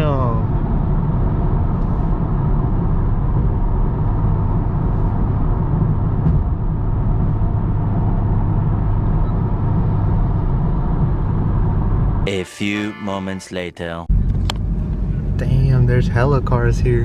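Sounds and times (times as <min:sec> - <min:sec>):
car engine and road drone: 0:00.0 - 0:12.4, 0:13.4 - 0:17.0.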